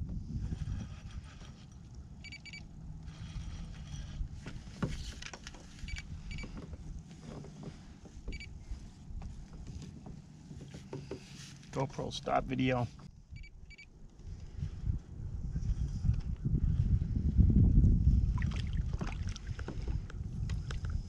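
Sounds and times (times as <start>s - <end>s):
wind rumbling on microphone: 0.0s - 11.4s, 12.2s - 21.0s.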